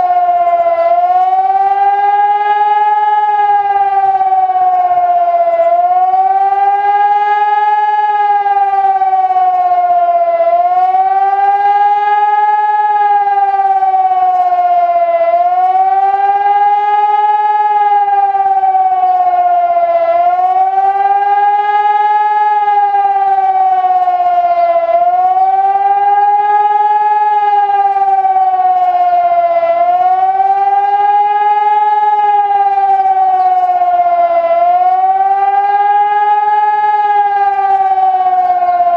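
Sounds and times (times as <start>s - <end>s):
wailing warning siren: 0.0s - 38.9s.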